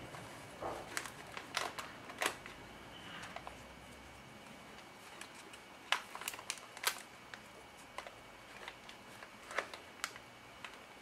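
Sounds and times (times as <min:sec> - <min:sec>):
cellophane bag crinkling: 0:00.6 - 0:03.7, 0:04.7 - 0:11.0.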